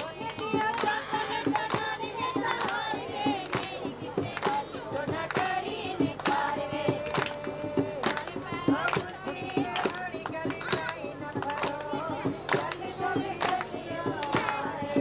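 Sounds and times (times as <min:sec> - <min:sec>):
hand clapping: 0:00.0 - 0:14.8
women singing folk song: 0:00.0 - 0:15.0.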